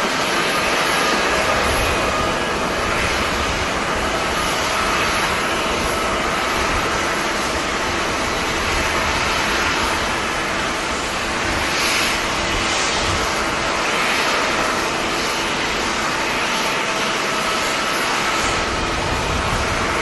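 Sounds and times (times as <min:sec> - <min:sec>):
jet engine noise with high whine: 0:00.0 - 0:20.0
wind buffeting microphone: 0:00.0 - 0:20.0.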